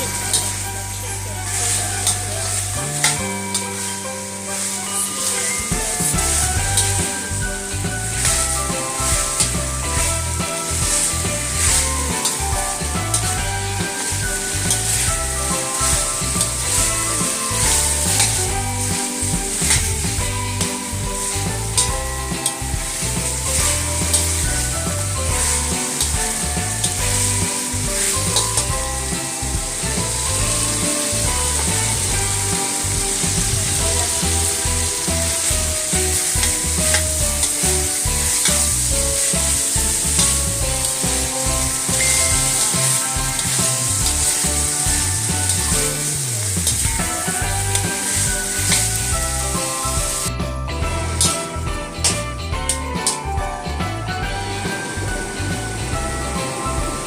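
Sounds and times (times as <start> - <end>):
food sizzling in a pan: 0.0 - 50.3
background music: 0.0 - 57.0
stirring in a pan: 1.4 - 50.3.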